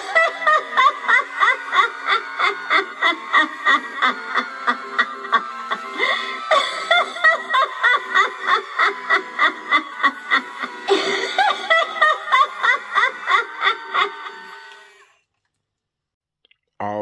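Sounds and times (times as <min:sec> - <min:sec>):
high-pitched giggling laugh: 0:00.0 - 0:14.9.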